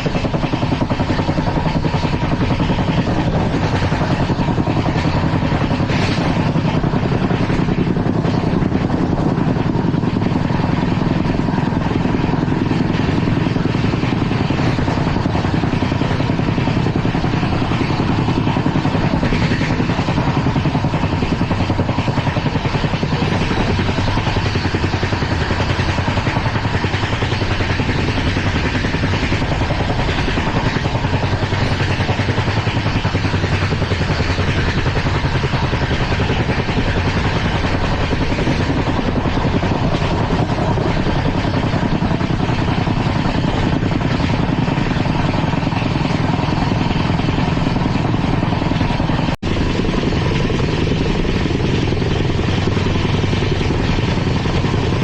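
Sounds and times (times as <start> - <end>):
train body rattling: 0.0 - 55.0
train wheels rumbling on track: 0.0 - 55.0.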